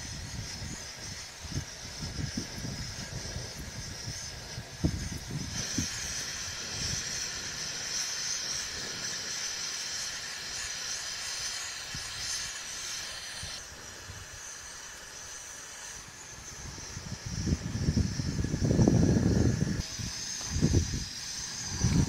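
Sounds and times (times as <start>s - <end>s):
dough sizzling in hot oil: 0.0s - 18.6s.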